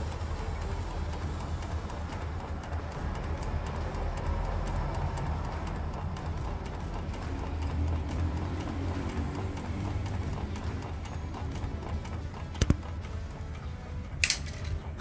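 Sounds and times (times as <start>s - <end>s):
low steady drone: 0.0s - 15.0s
steering box clicking and knocking: 0.0s - 15.0s.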